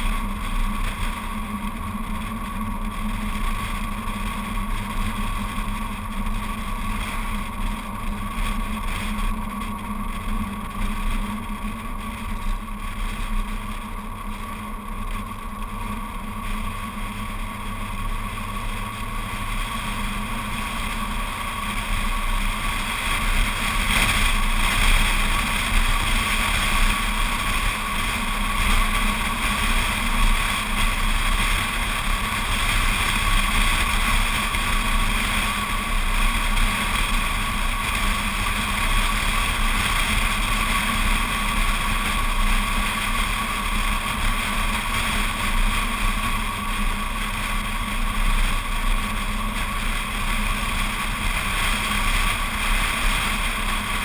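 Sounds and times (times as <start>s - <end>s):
low engine drone: 0.0s - 54.0s
tyre and road noise: 0.0s - 54.0s
wind rushing over camera: 0.0s - 54.0s.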